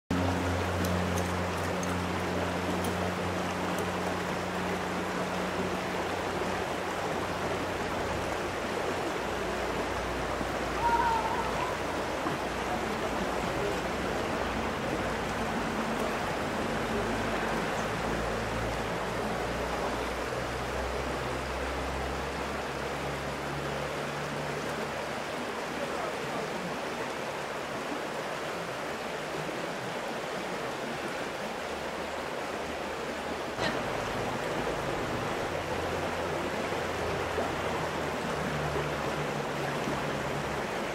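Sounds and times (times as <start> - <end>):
stream rushing: 0.1 - 40.9.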